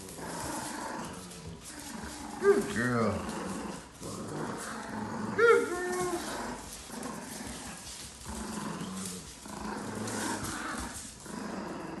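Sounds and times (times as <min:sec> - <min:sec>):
puppies growling in play: 0:00.0 - 0:12.0.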